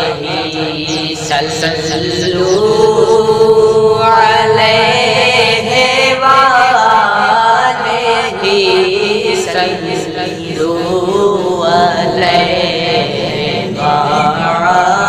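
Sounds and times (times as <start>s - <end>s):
men singing together: 0.0s - 15.0s.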